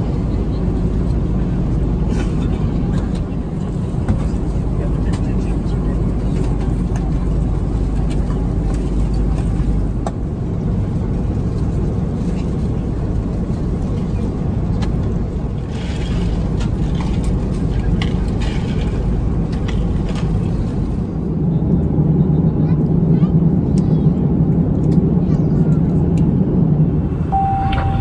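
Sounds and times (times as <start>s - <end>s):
airliner cabin low roar: 0.0s - 28.0s.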